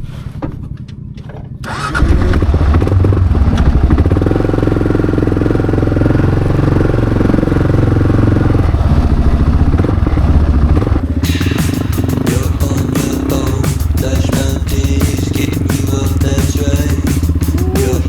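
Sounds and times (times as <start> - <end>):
motorcycle exhaust running: 0.7 - 18.0.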